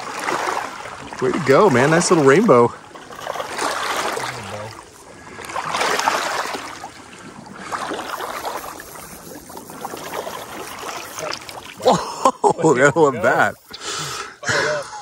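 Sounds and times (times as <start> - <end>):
water drips and trickles: 0.0 - 12.0
water splashing around kayak: 0.0 - 14.5.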